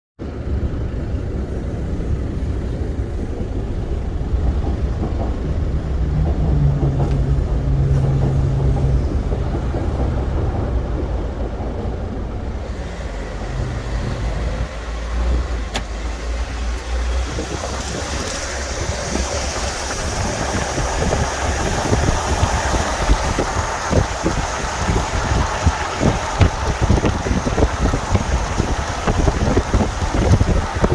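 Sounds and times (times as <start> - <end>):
train hum: 0.2 - 30.9
train rumbling over bridge: 0.2 - 30.9
wind buffeting microphone: 0.2 - 30.9.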